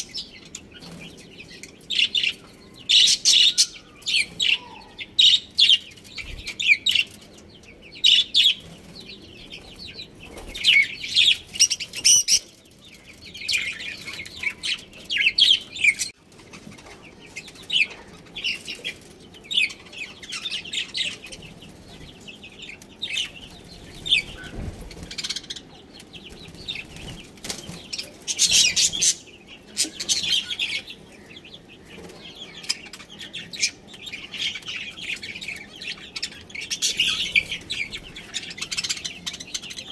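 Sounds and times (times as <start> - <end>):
budgerigars chirping: 0.0 - 16.1, 17.5 - 39.9.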